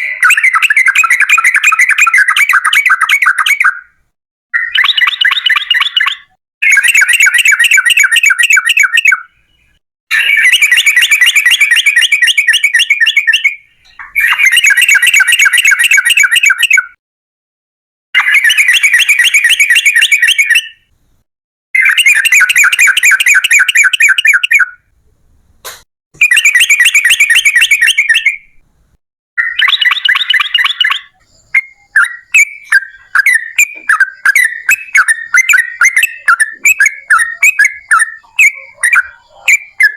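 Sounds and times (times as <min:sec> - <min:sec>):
bird chattering song: 0:00.0 - 0:04.0, 0:04.6 - 0:17.0, 0:18.2 - 0:20.9, 0:21.8 - 0:24.9, 0:26.2 - 0:28.6, 0:29.4 - 0:39.9.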